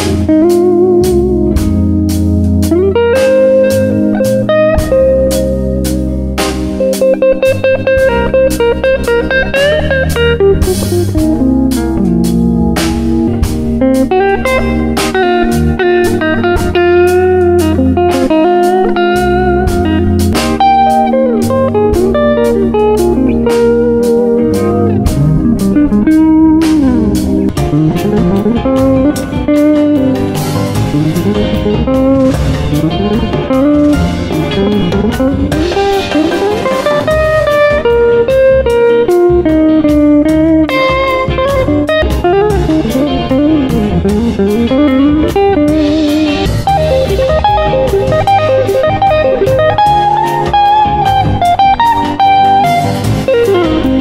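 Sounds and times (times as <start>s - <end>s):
bass: 0.0s - 54.0s
drums: 0.0s - 54.0s
electric guitar blues lead: 0.0s - 54.0s.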